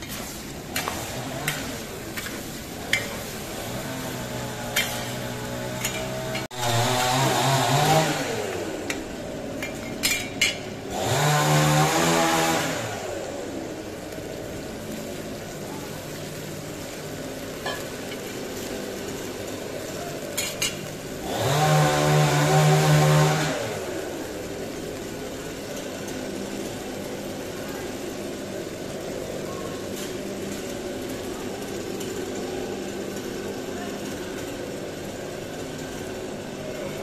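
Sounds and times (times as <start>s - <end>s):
food sizzling in a pot: 0.0s - 37.0s.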